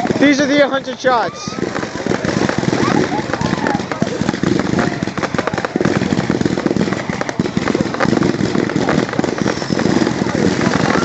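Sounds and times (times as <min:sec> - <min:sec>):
fireworks popping and crackling: 0:00.0 - 0:11.0
fireworks whistling: 0:00.0 - 0:11.0.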